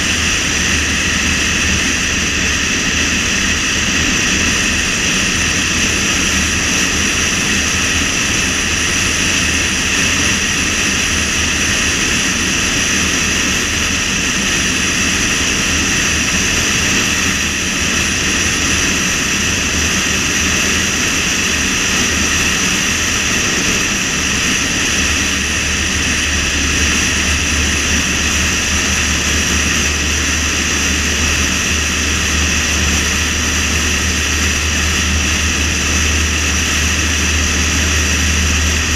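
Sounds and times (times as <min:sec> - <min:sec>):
low car rumble: 0:00.0 - 0:38.9
road and wind noise: 0:00.0 - 0:38.9.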